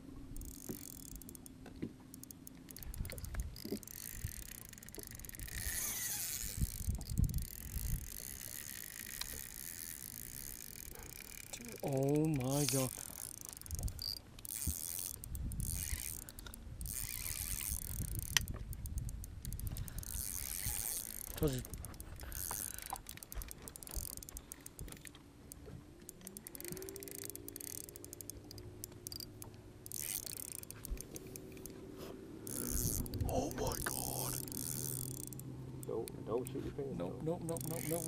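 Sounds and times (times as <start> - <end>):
fishing reel clicking: 0.4 - 31.8, 32.4 - 36.2, 37.4 - 38.0.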